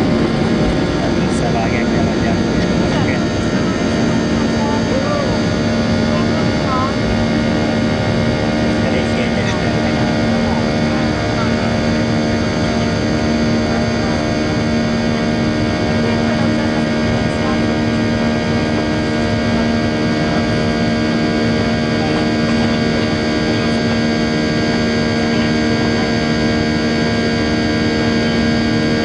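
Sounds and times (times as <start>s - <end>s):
jet engines droning in cabin: 0.0s - 29.0s.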